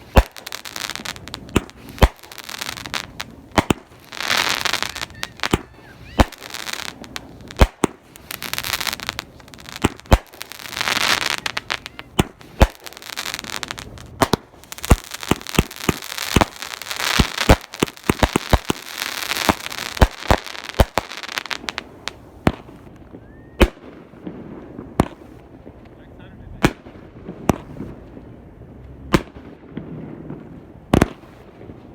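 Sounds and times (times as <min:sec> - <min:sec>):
fireworks bangs: 0:00.0 - 0:31.9
fireworks crackling hiss: 0:00.0 - 0:31.9.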